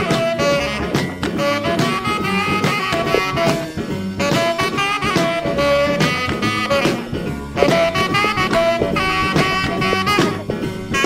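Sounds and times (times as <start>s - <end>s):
upbeat song with horns: 0.0s - 11.0s.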